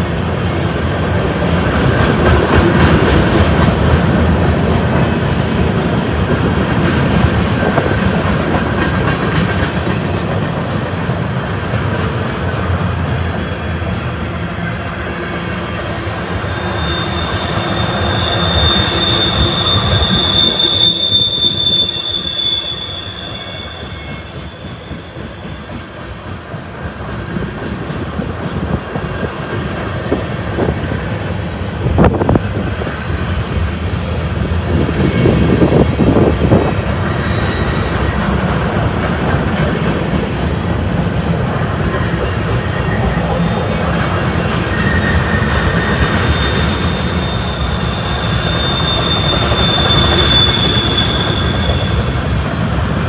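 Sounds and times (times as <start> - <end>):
freight train rumbling past: 0.0 - 53.0
train wheels squealing: 0.0 - 53.0.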